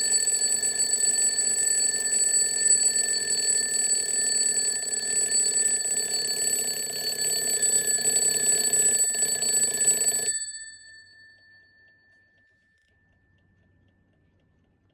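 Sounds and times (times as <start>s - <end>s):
twin-bell alarm clock ringing: 0.0s - 12.2s.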